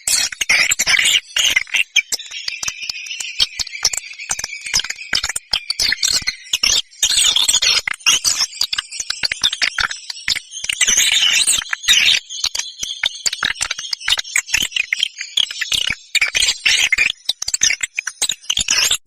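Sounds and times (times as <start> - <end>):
high twittering chirps: 0.1 - 15.6.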